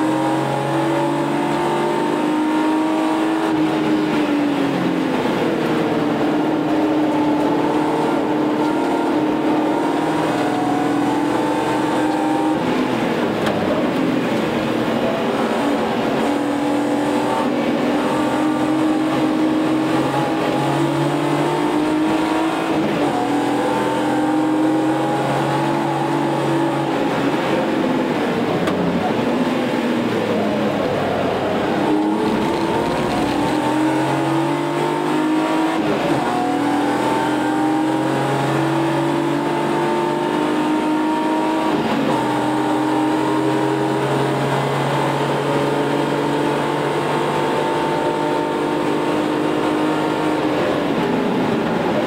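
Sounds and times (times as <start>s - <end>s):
car engine revving through gears: 0.0s - 52.0s.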